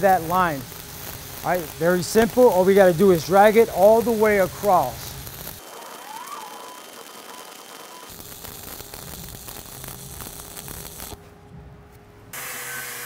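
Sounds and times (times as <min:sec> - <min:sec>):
welding arc crackling and popping: 0:00.0 - 0:11.2
steady hiss with faint hum: 0:00.0 - 0:12.4.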